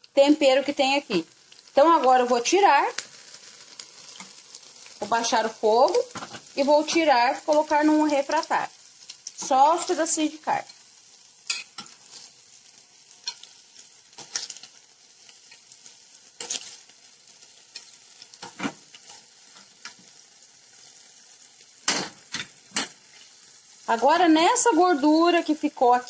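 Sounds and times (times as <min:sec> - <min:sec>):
chicken sizzling in a frying pan: 0:00.0 - 0:26.0.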